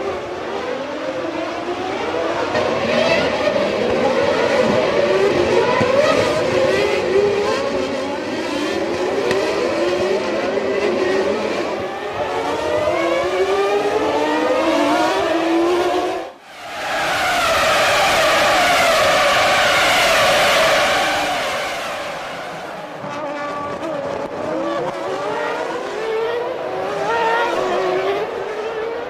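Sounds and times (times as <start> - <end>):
racing car engines revving hard: 0.0 - 29.0.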